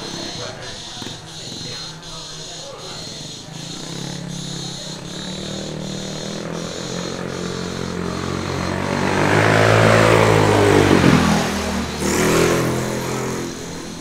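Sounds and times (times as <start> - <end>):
motor scooter passing by: 0.0 - 14.0.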